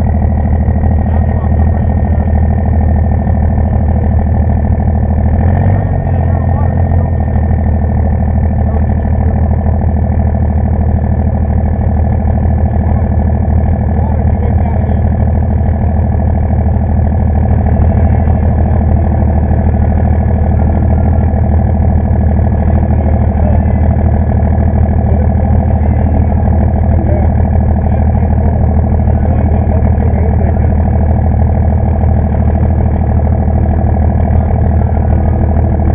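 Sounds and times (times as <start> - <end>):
diesel truck engine idling: 0.0 - 35.9
thin steady whine: 0.0 - 35.9.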